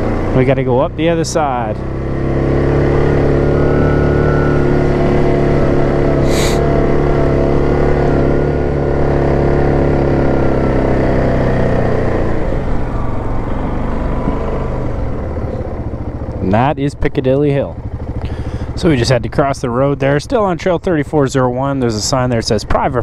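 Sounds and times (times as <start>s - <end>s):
engine pulling under load: 0.0s - 16.7s, 17.6s - 23.0s.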